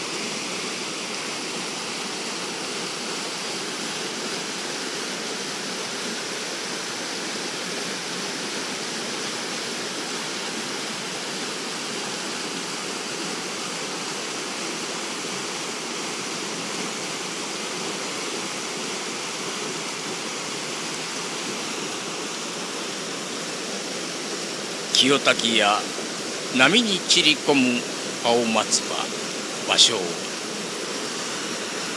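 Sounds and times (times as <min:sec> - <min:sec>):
river water rushing over rocks: 0:00.0 - 0:31.9.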